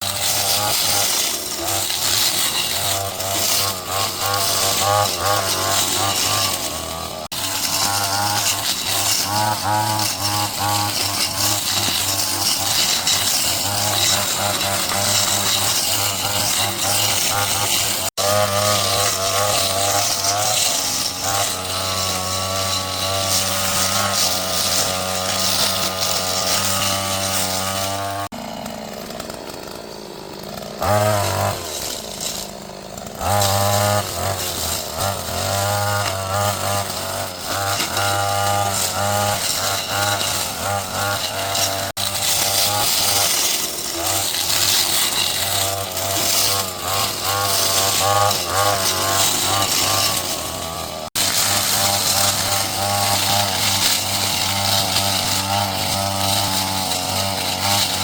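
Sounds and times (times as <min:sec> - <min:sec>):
small petrol engine running: 0:00.0 - 0:58.0.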